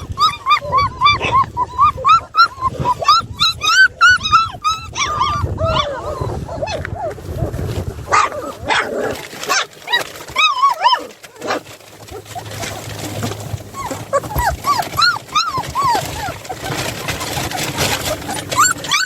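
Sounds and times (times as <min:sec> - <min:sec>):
puppies whining and yelping: 0:00.0 - 0:19.0.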